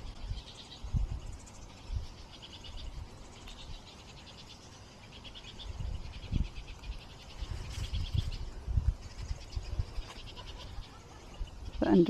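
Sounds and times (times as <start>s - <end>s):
fledglings begging calls: 0.0s - 12.0s.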